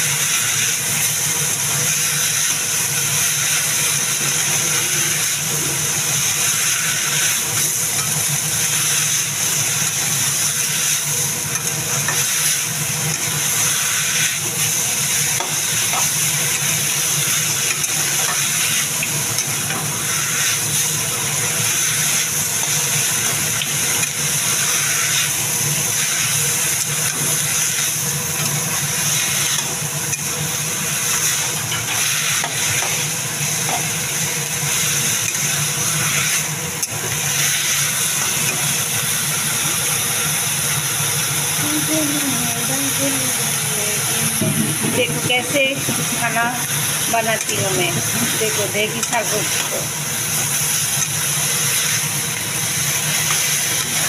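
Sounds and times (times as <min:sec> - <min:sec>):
greens sizzling in a pan: 0:00.0 - 0:54.0.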